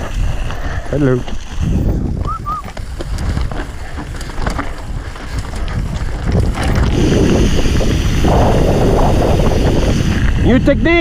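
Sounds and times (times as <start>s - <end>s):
bike tyres rolling on gravel: 0.0s - 11.0s
wind buffeting microphone: 0.0s - 11.0s.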